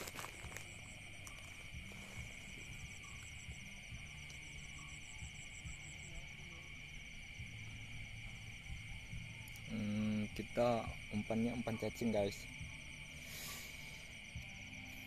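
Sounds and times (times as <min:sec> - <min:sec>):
crickets buzzing: 0:00.0 - 0:15.0
fast insect trill: 0:00.0 - 0:15.0.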